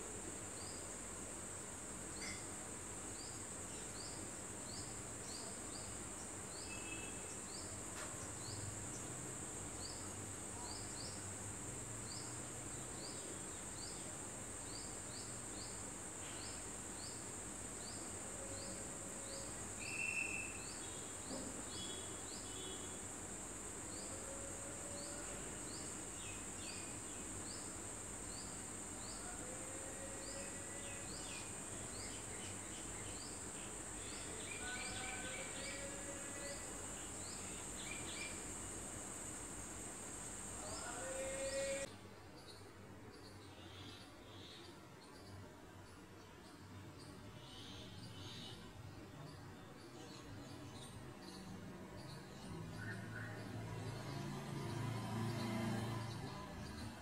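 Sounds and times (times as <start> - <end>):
insect drone: 0.0 - 42.6, 50.4 - 57.0.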